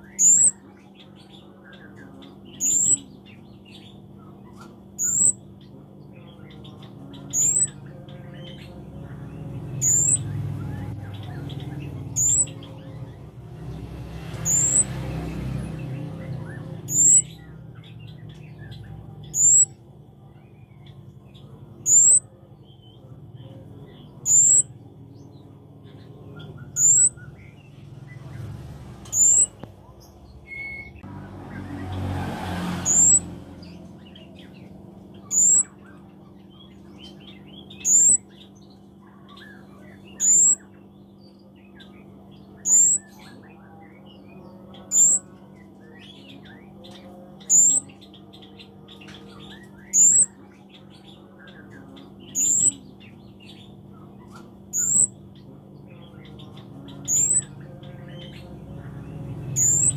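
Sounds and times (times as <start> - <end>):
bird chirping high: 0.0 - 23.0, 23.8 - 59.9.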